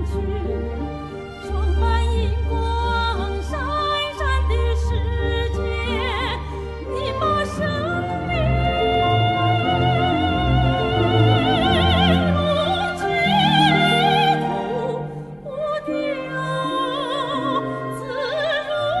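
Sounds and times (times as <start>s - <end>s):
operatic singing: 0.0s - 19.0s
orchestral accompaniment: 0.0s - 19.0s.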